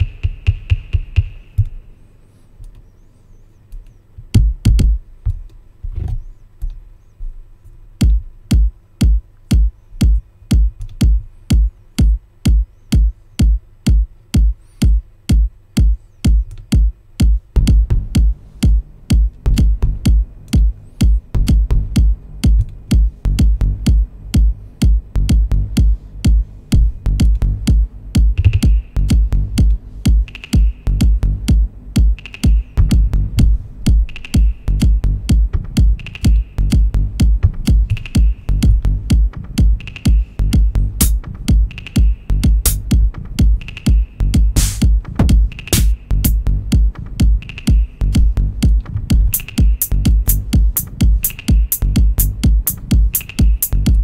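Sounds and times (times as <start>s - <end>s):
steady kick drum: 0.0s - 1.8s, 4.2s - 54.0s
heavy bass layers: 0.0s - 2.0s, 7.8s - 54.0s
minimal techno beat: 0.0s - 2.0s, 3.7s - 54.0s.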